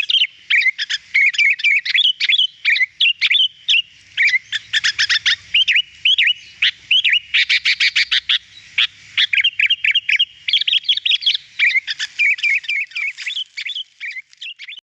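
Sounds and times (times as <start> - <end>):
bulbul singing: 0.0 - 14.8.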